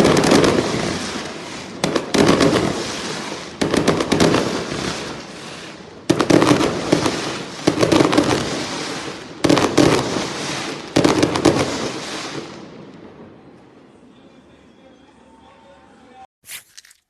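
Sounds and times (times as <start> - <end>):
fireworks crackling bangs: 0.0 - 13.9.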